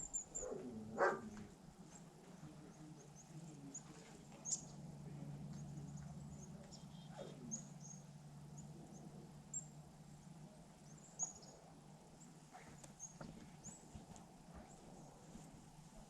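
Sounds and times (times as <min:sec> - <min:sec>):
small birds chirping: 0:00.0 - 0:15.7.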